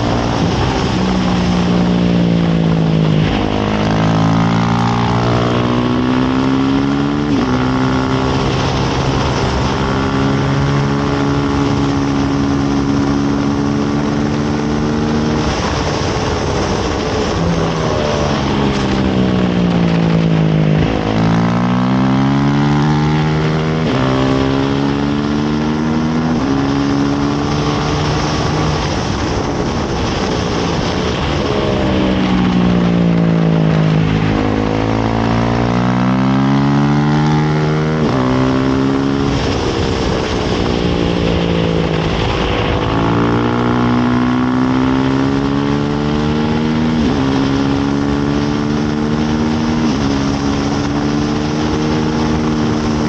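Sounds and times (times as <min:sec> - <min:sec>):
motorcycle engine revving: 0:00.0 - 0:53.0
wind rushing over microphone: 0:00.0 - 0:53.0.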